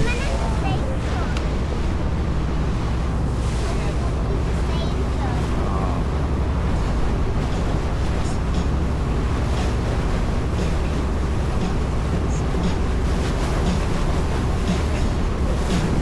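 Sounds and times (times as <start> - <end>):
boat engine rumble: 0.0 - 16.0
rushing water: 0.0 - 16.0
wind buffeting microphone: 0.0 - 16.0.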